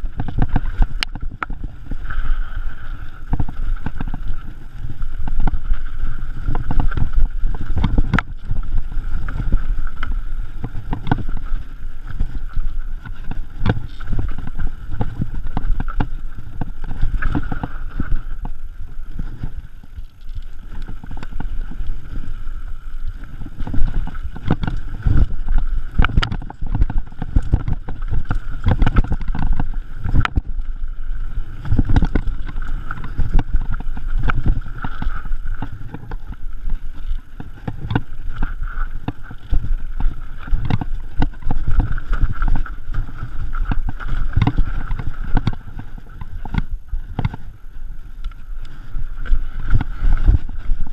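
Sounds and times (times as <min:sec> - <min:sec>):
bike rattling and knocking: 0:00.0 - 0:02.0, 0:03.2 - 0:47.5
wind buffeting microphone: 0:00.0 - 0:50.9.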